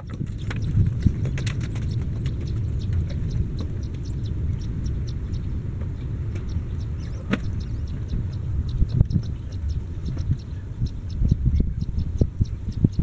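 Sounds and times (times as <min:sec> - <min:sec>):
low rumble: 0:00.0 - 0:13.0
small birds chirping: 0:00.0 - 0:13.0.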